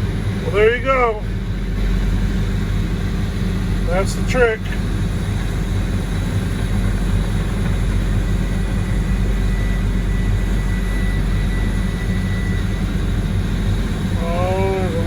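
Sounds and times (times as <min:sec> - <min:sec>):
faint high whine: 0:00.0 - 0:15.0
heavy diesel engine running: 0:00.0 - 0:15.0.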